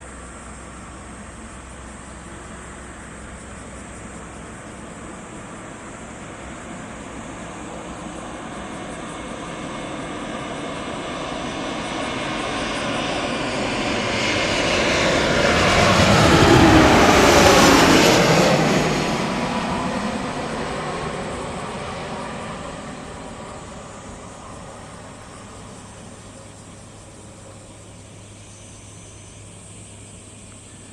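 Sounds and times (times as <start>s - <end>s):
jet plane roar passing: 0.0s - 30.9s.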